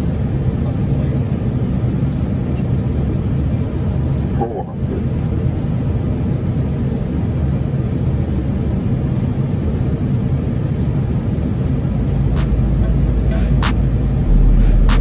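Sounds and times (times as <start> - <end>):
airliner cockpit rumble: 0.0 - 15.0.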